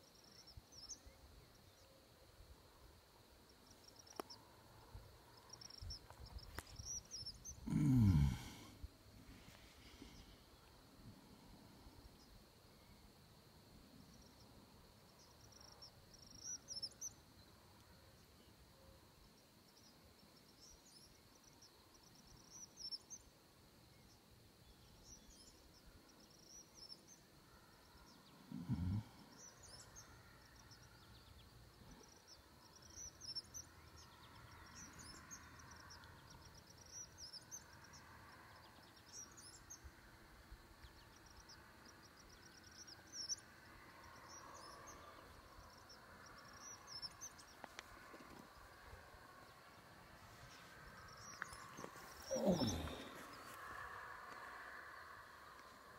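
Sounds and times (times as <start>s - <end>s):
high insect drone: 0.0s - 55.9s.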